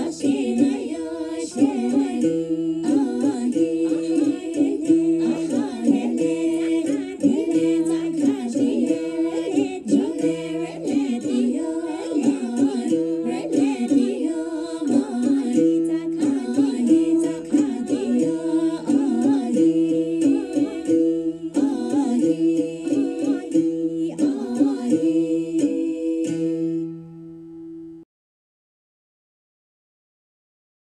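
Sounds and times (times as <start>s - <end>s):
women singing in harmony: 0.0s - 26.9s
plucked one-stringed instrument: 0.0s - 28.0s.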